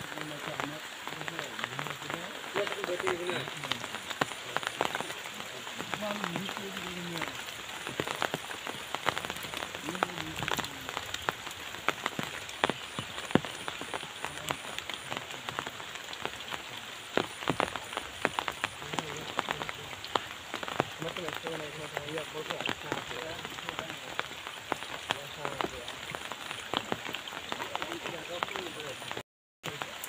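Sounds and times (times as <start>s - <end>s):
rain hiss: 0.0s - 30.0s
raindrop ticks: 0.0s - 30.0s
river in flood: 0.0s - 30.0s.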